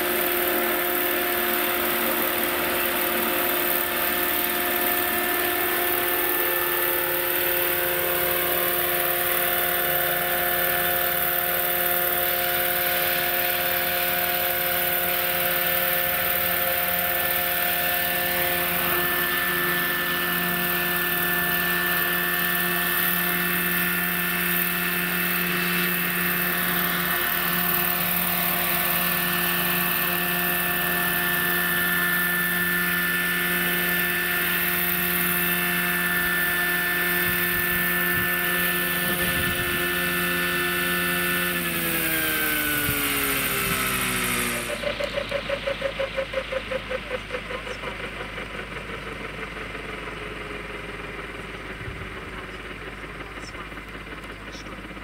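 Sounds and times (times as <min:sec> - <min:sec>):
helicopter rotors whirring: 0:00.0 - 0:55.0
model helicopter motor whine: 0:00.0 - 0:55.0.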